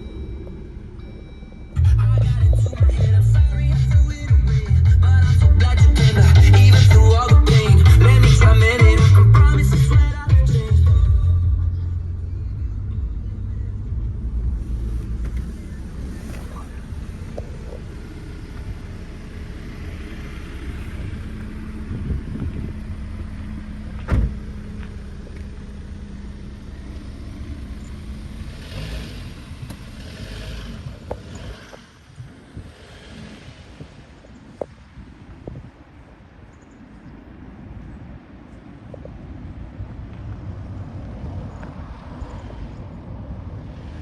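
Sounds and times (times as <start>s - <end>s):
car engine low rumble: 0.0s - 44.0s.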